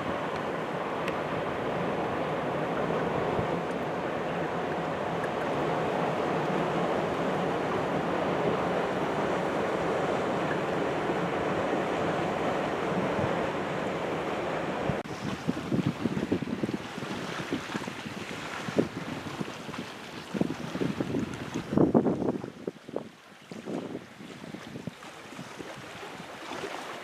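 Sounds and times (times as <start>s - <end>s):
moving water: 0.0s - 27.0s.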